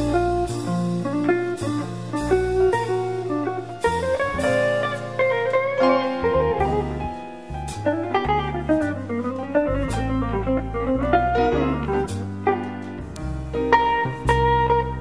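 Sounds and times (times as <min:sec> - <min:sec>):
guitar melody: 0:00.0 - 0:15.0
low bass notes: 0:00.0 - 0:15.0.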